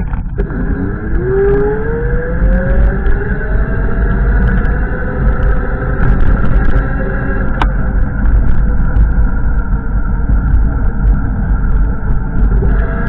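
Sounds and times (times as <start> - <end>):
vehicle engine humming: 0.0 - 13.0
wind rumbling on microphone: 0.0 - 13.0.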